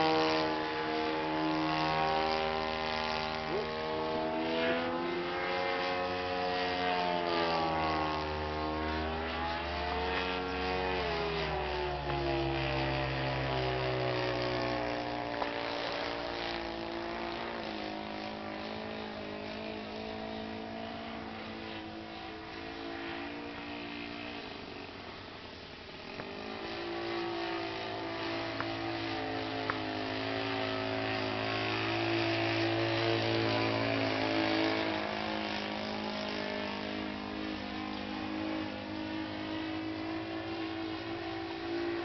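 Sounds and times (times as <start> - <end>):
model airplane engine and propeller: 0.0 - 42.0.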